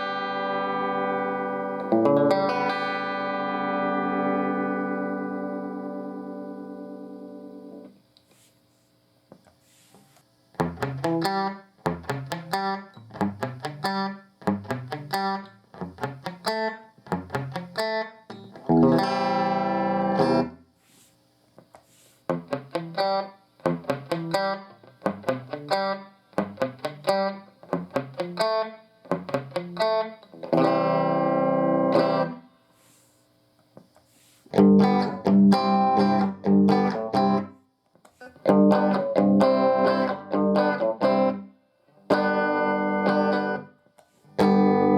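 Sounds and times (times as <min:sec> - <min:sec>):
electric guitar playing: 0:00.0 - 0:08.0, 0:10.5 - 0:20.6, 0:22.3 - 0:32.5, 0:34.5 - 0:37.5, 0:38.3 - 0:44.9.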